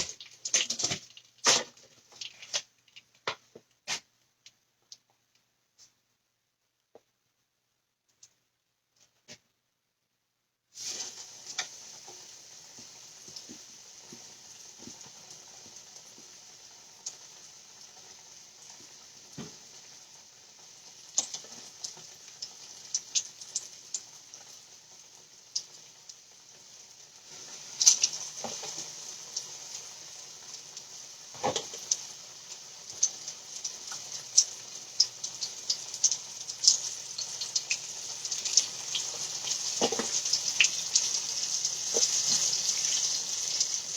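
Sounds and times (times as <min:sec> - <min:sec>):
chicken sizzling in hot oil: 0:00.0 - 0:04.1, 0:10.7 - 0:43.9.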